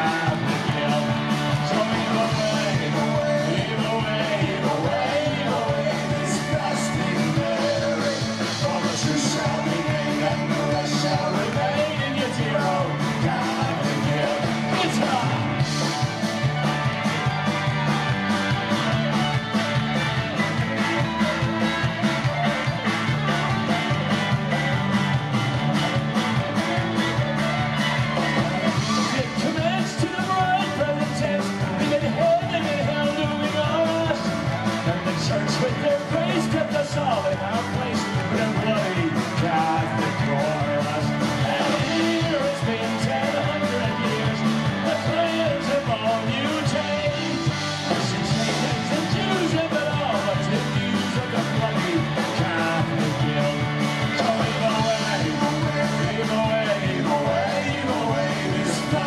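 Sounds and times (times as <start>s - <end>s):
drums beating: 0.0s - 59.0s
electric guitars: 0.0s - 59.0s.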